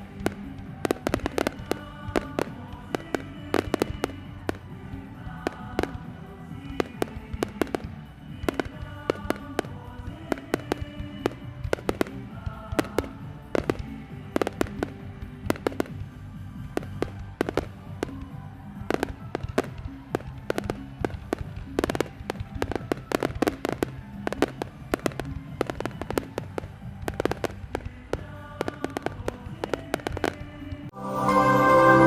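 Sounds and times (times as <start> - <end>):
fireworks bangs and crackles: 0.0 - 30.9
music playing: 0.0 - 32.0.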